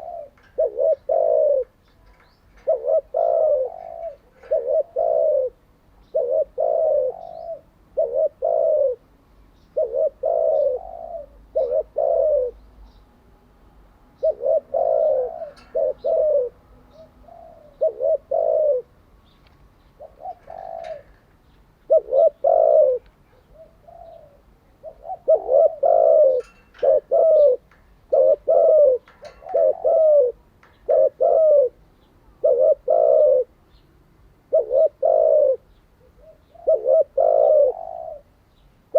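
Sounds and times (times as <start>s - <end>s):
dove cooing: 0.0s - 12.6s, 14.2s - 19.4s, 20.0s - 33.8s, 34.5s - 38.4s.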